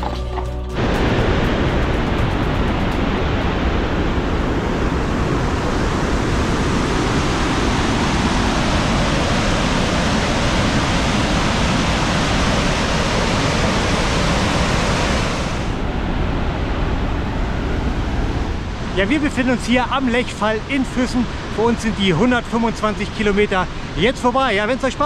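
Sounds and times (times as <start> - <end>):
river water roaring over a weir: 0.8 - 25.0.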